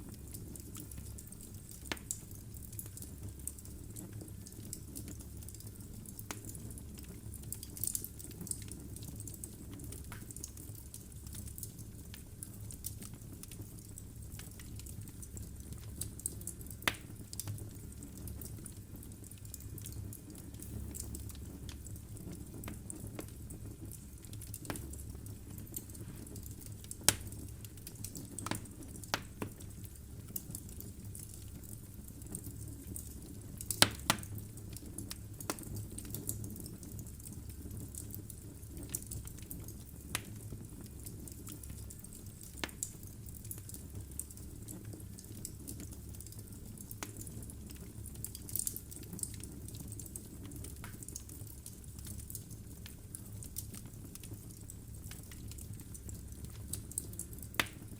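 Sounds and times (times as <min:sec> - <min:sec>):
low rumble of flame: 0:00.0 - 0:57.9
logs crackling and popping: 0:00.1 - 0:57.9.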